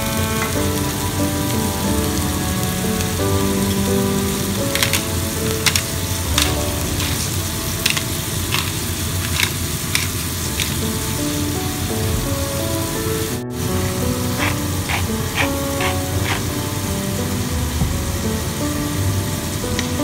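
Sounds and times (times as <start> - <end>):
food sizzling in oil: 0.0 - 17.4.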